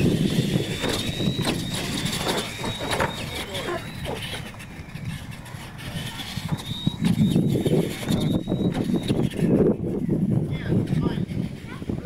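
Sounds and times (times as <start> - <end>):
rc truck motor whine: 0.0 - 12.0
people's voices: 2.3 - 12.0.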